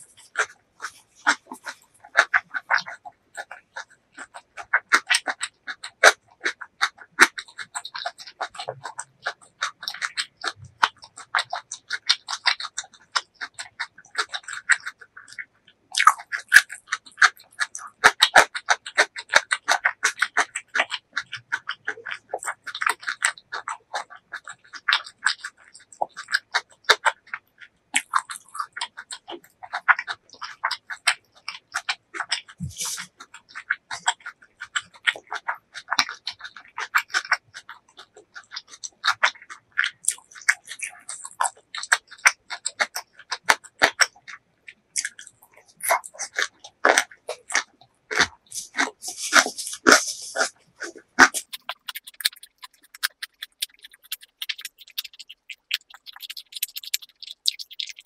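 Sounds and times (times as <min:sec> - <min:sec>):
wet chewing mouth clicks: 0:00.0 - 0:58.0.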